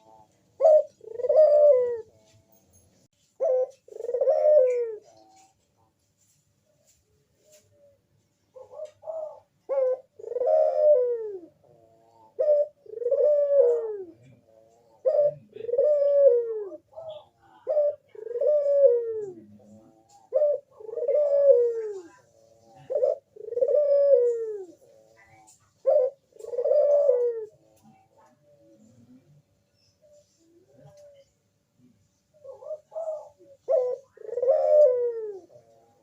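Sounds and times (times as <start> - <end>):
dove cooing: 0.0 - 2.6, 3.2 - 6.0, 6.8 - 36.0.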